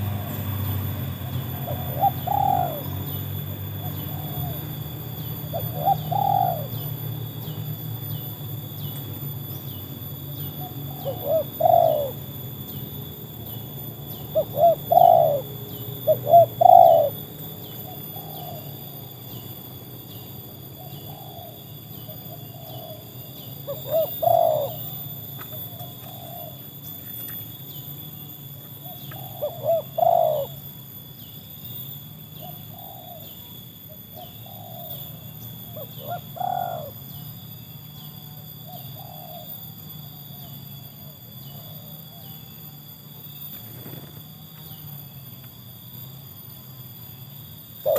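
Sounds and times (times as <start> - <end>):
doves cooing: 0.0 - 31.3, 32.2 - 37.4, 38.6 - 40.0, 47.4 - 47.9
rapidly pulsing high chirp: 0.0 - 47.9.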